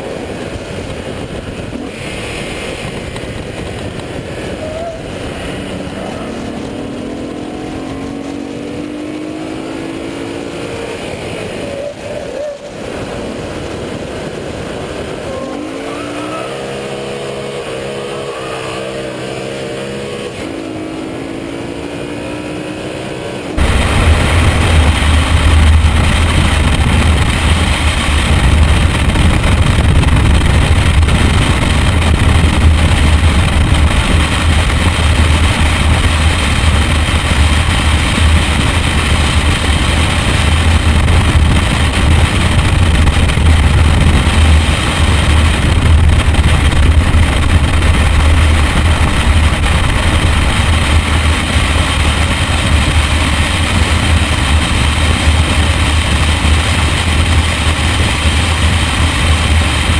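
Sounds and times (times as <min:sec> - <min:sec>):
car engine running: 0:00.0 - 0:11.6, 0:23.4 - 0:59.9
wind buffeting camera: 0:00.0 - 0:59.9.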